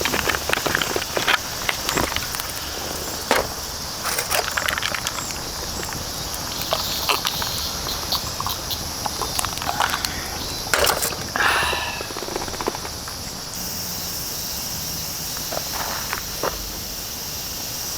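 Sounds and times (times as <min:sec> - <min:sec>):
insects droning: 0:00.0 - 0:17.9.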